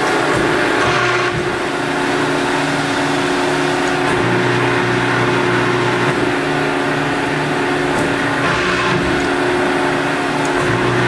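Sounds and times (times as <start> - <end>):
machine motor and pump hum: 0.0 - 11.0.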